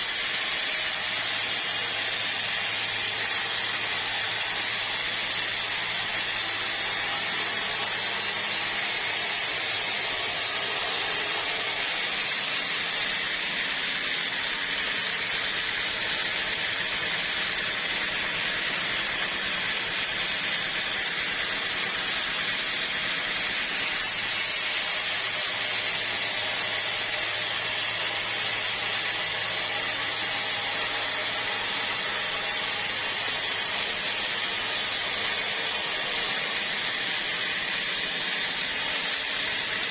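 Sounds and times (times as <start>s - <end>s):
sawmill machinery hiss and hum: 0.0s - 39.9s.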